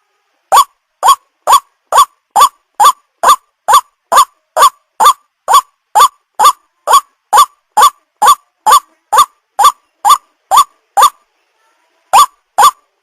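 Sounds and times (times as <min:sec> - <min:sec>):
waterhen calling: 0:00.5 - 0:11.1.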